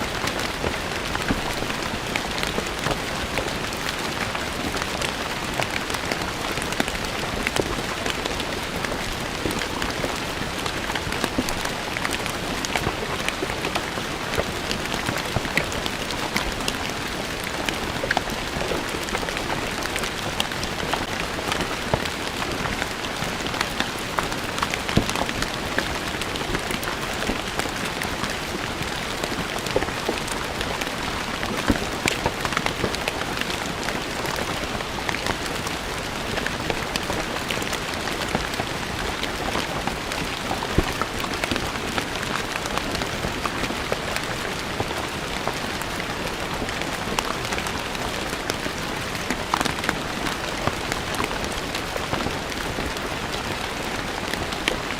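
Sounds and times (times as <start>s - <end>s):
rain on stone paving: 0.0s - 54.9s.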